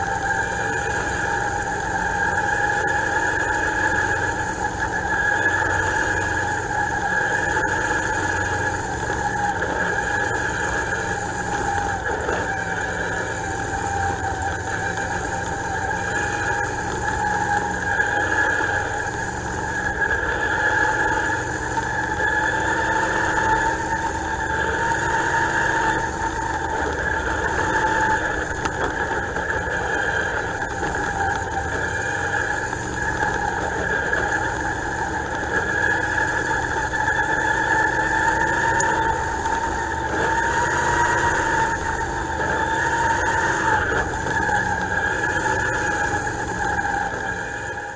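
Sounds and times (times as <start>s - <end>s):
race car engine droning: 0.0s - 47.9s.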